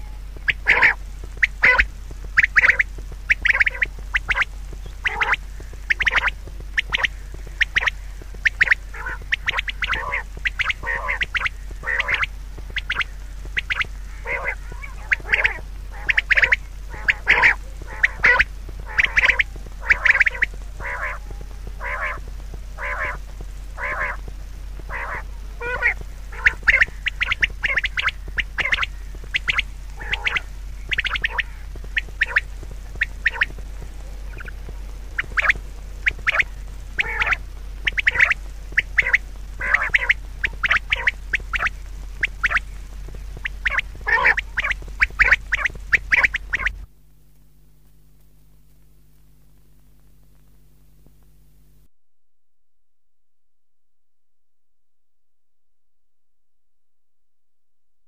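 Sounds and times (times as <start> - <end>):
birds calling: 0.0 - 46.9.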